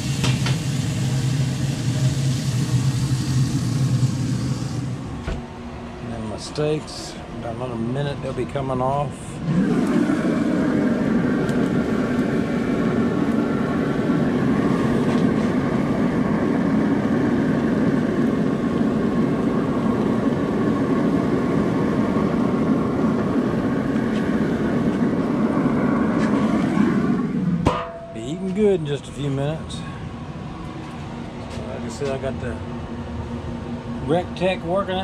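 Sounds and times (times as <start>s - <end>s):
grill fire and blower rushing: 0.0s - 35.0s.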